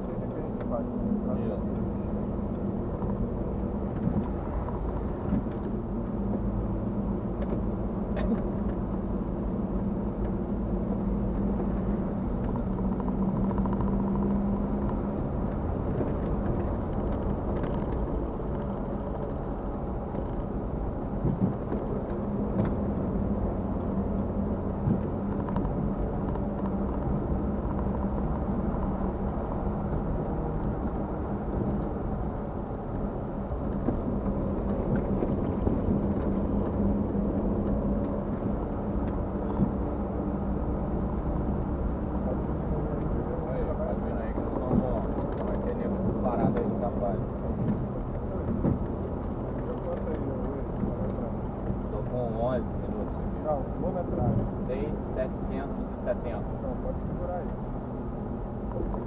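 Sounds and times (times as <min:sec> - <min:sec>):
rumbling road noise: 0:00.0 - 0:59.0.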